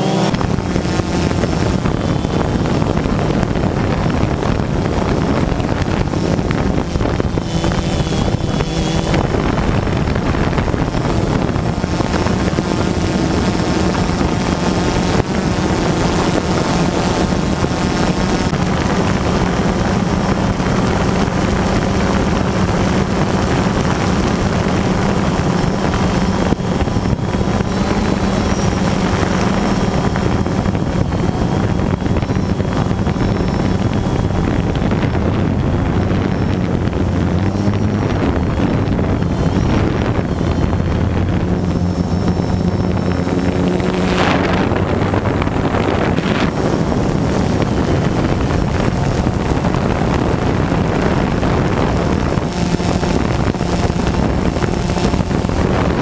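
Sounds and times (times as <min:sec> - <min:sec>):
drone motors humming: 0:00.0 - 0:56.0
wind on microphone: 0:00.0 - 0:56.0.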